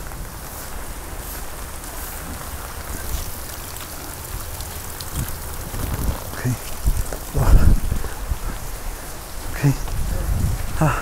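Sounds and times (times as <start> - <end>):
raindrop taps: 0.0 - 10.8
rain falling: 0.0 - 11.0.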